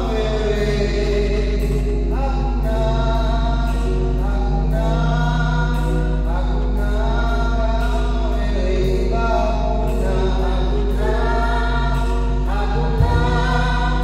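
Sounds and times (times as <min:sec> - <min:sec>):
choir singing a hymn: 0:00.0 - 0:14.0
musical accompaniment: 0:00.0 - 0:14.0.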